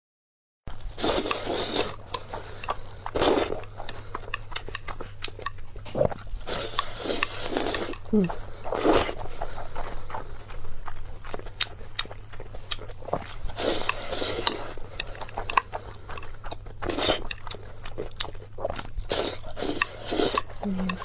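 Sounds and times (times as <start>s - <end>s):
chewing: 0.7s - 21.0s.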